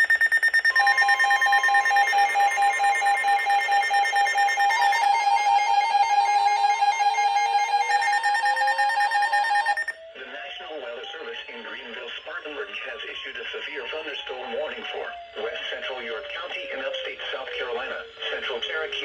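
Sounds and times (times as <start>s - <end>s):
stepping warble alarm: 0.0s - 19.0s
weather alert radio beeping: 0.0s - 19.0s.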